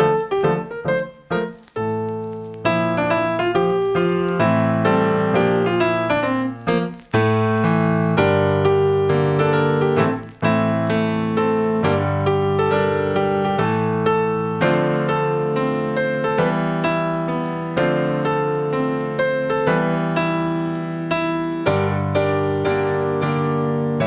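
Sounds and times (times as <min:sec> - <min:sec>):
keyboard playing piano chords: 0:00.0 - 0:24.0.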